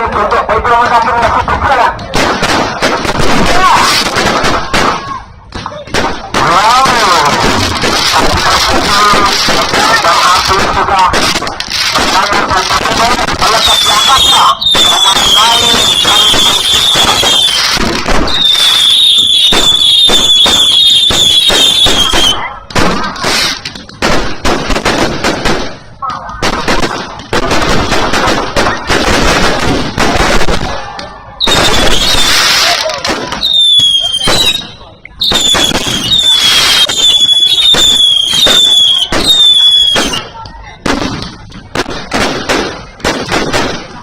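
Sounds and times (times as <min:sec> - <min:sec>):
crowd voices: 0:00.0 - 0:44.0
firecrackers banging: 0:00.0 - 0:44.0.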